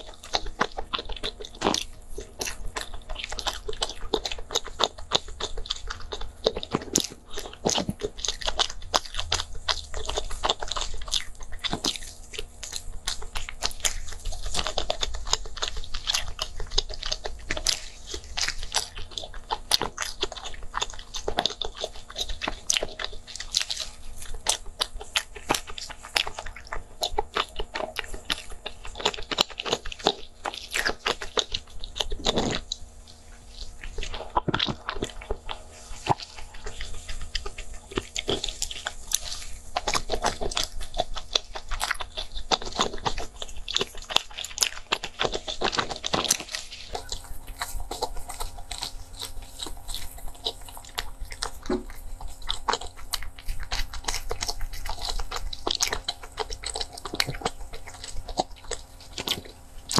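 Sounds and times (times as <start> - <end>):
chewing and wet mouth sounds: 0.0 - 59.9
small crunchy clicks: 0.0 - 59.9.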